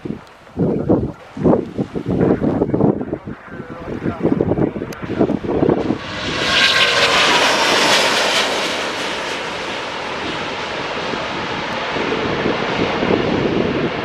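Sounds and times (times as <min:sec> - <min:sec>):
jet engine roar with whine: 0:00.0 - 0:14.0
wind rumbling on microphone: 0:00.0 - 0:14.0.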